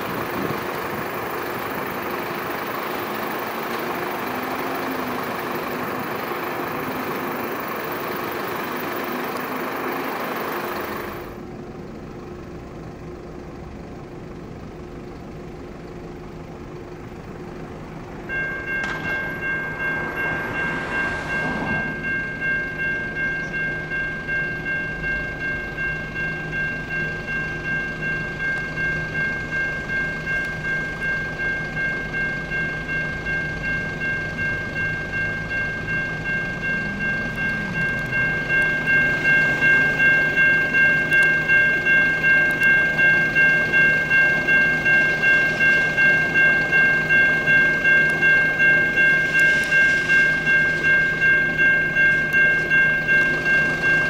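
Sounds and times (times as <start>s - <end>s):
electronic railroad crossing bell: 0.0s - 54.0s.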